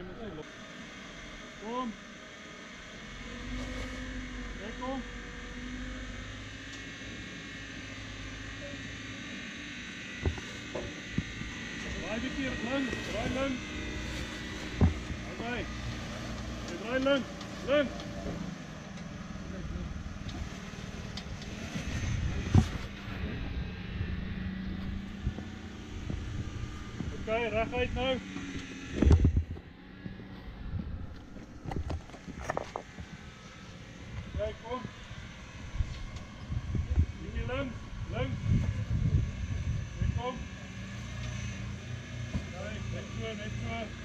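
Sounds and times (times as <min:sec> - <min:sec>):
engine running at low revs: 0:00.0 - 0:44.0.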